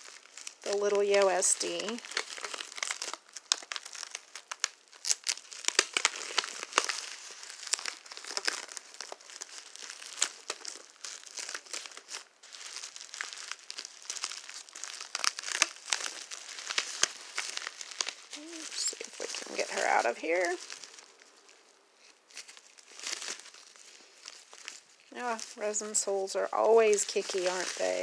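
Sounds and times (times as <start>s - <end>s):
bubble wrap crackling: 0.0s - 28.0s.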